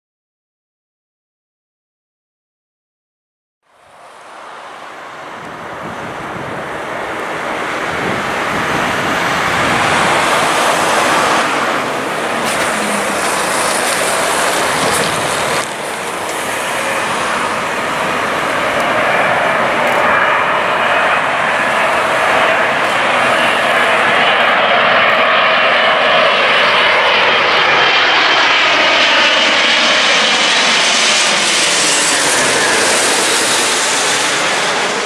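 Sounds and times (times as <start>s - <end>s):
jet engine roar: 3.7s - 35.0s.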